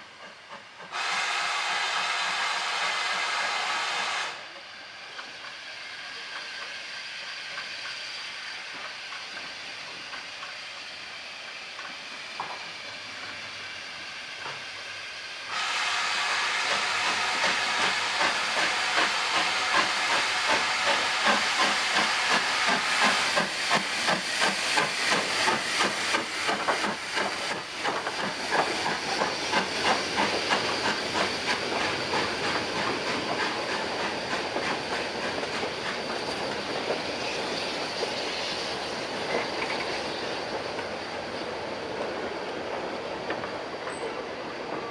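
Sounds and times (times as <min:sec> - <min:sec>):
loud rush of steam: 0:00.0 - 0:44.9
steam locomotive hissing: 0:00.0 - 0:44.9.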